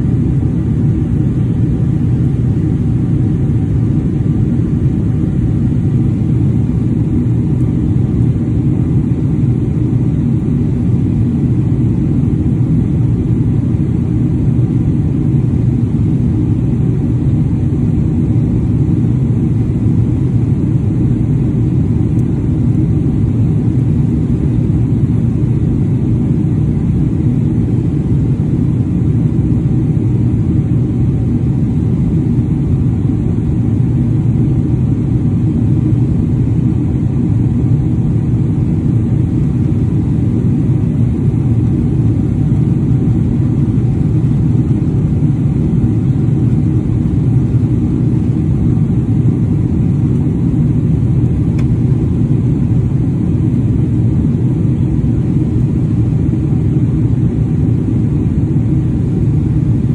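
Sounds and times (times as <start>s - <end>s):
faint steady hum: 0.0s - 59.9s
jet cabin engine roar: 0.0s - 59.9s.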